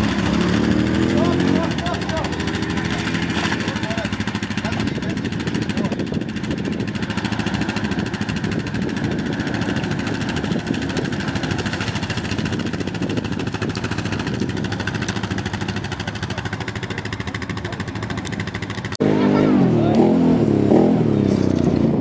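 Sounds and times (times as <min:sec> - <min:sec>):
quad bike engine idling: 0:00.0 - 0:22.0.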